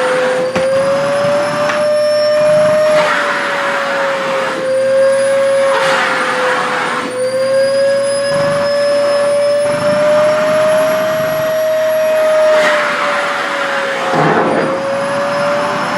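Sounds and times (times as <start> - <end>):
vacuum cleaner motor whine: 0.0 - 15.9.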